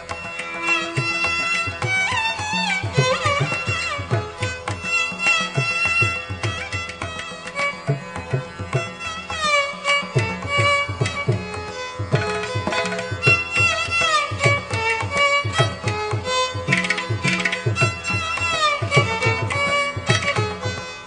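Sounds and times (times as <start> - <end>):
sliding instrumental melody: 0.0 - 21.0.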